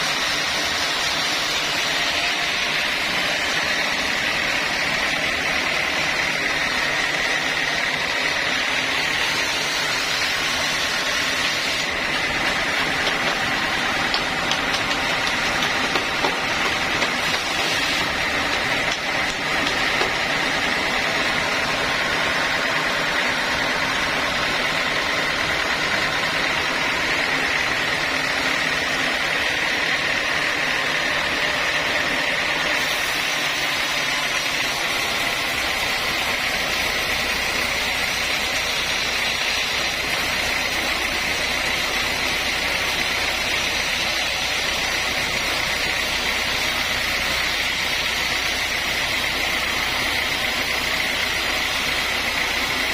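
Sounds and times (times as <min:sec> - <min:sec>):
high-pitched saw whine: 0:00.0 - 0:52.9
sawmill saw running: 0:00.0 - 0:52.9.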